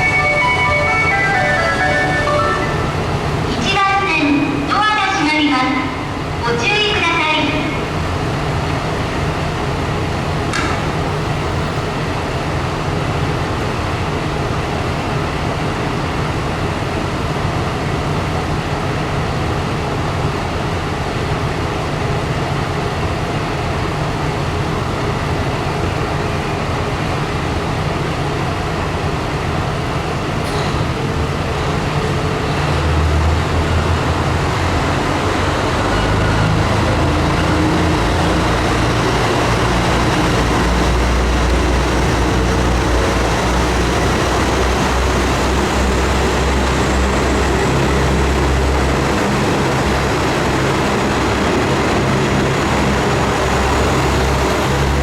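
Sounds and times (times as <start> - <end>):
diesel railcar engine rumbling: 0.0 - 55.0.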